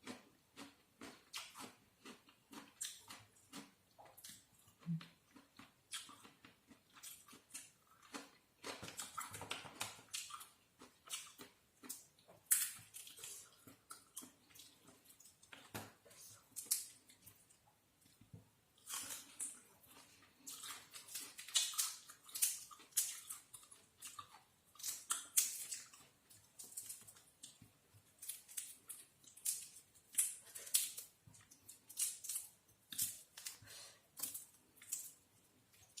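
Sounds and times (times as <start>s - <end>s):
crunching food being chewed: 0.0s - 36.0s.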